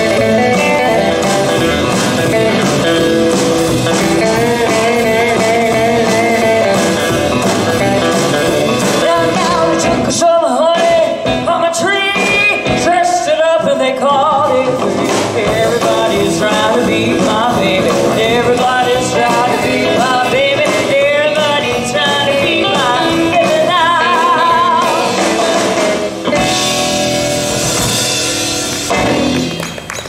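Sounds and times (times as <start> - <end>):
rock and roll band playing: 0.0 - 30.0
wavering lead guitar melody: 0.0 - 30.0.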